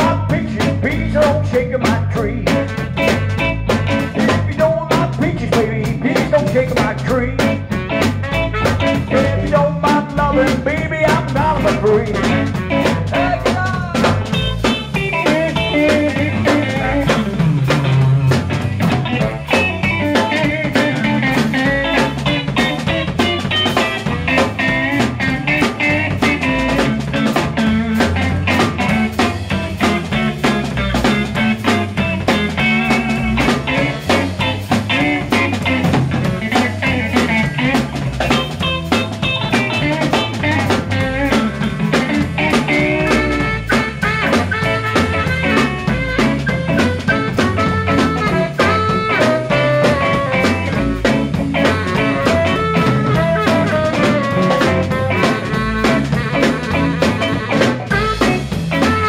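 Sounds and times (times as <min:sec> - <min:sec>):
bass guitar: 0:00.0 - 0:59.0
drum kit steady beat: 0:00.0 - 0:59.0
electric guitars: 0:00.0 - 0:59.0.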